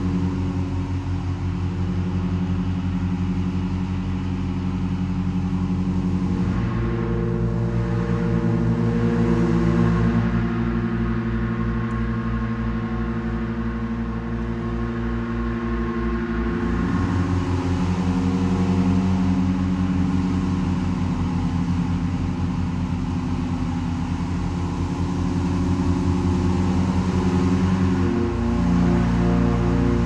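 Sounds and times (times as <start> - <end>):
pipe organ low sustained tones: 0.0 - 30.0.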